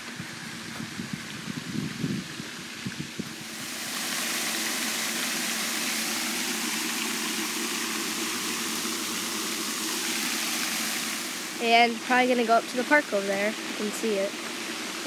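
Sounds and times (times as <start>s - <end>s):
fountain splashing: 0.0s - 15.0s.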